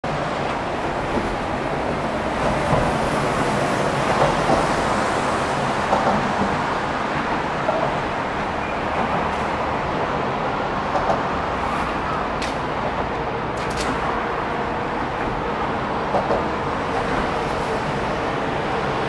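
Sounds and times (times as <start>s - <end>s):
expressway traffic passing: 0.0s - 19.0s.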